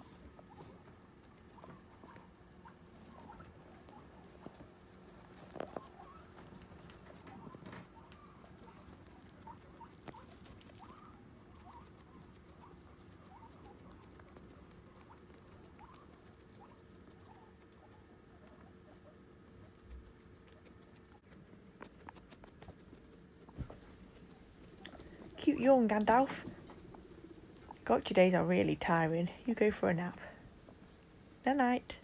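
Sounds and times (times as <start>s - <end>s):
guinea pigs chewing greens: 0.0s - 32.0s.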